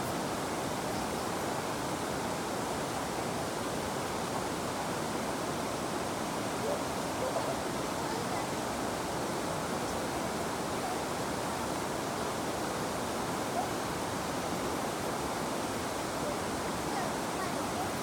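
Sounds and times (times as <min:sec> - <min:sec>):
river rushing over stones: 0:00.0 - 0:18.0.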